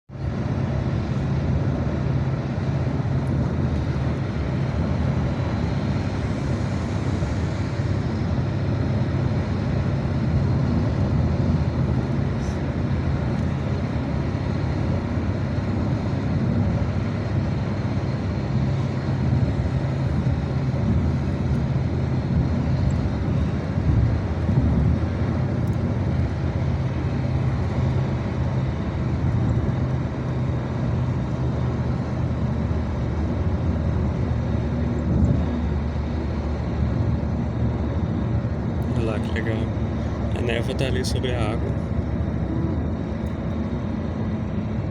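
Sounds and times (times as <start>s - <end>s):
low engine drone: 0.1s - 44.9s.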